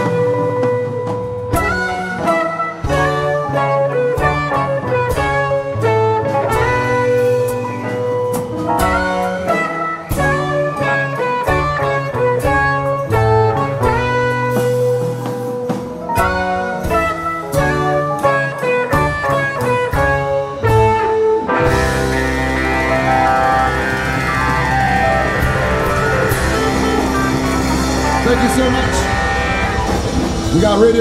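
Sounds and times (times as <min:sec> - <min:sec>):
bass guitar: 0:00.0 - 0:31.0
drums: 0:00.0 - 0:31.0
electric lead guitar: 0:00.0 - 0:31.0.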